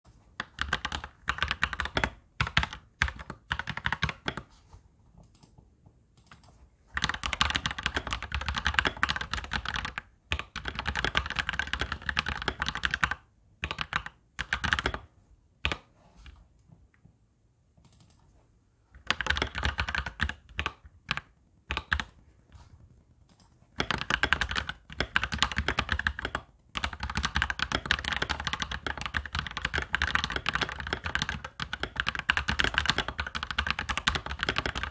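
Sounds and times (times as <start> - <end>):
mechanical keyboard typing: 0.4 - 4.5, 5.2 - 15.9, 17.8 - 18.2, 19.0 - 22.2, 23.2 - 34.9.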